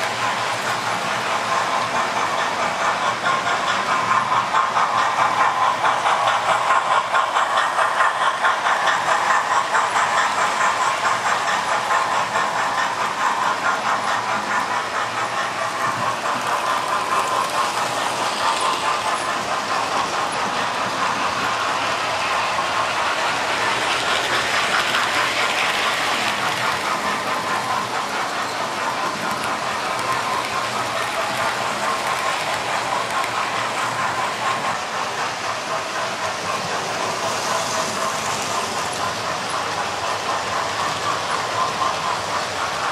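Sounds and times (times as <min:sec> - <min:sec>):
model train whirring: 0:00.0 - 0:42.9
wheels clicking over rail joints: 0:00.0 - 0:42.9.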